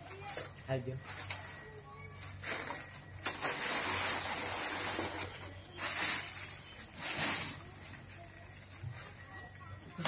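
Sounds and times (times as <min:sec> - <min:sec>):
dry leaves and paper rustling: 0:00.2 - 0:09.7.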